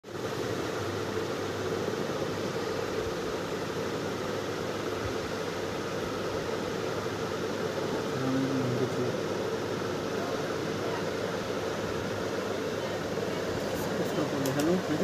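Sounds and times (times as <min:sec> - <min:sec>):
steady hiss with low hum: 0:00.0 - 0:15.0.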